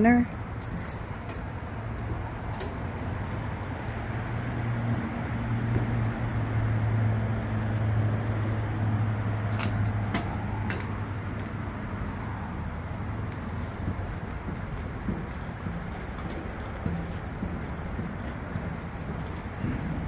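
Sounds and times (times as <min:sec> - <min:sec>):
vehicle engine hum: 0:00.0 - 0:20.0.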